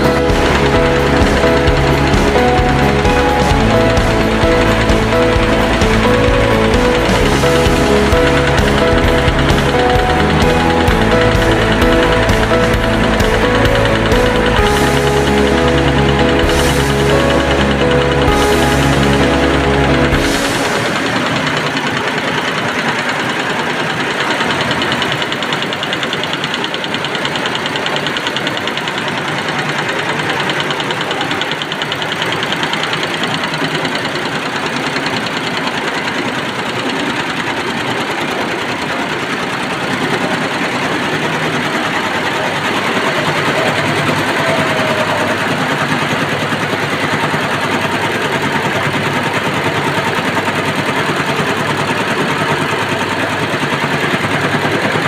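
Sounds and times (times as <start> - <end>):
embroidery machine clattering: 0.0 - 55.0.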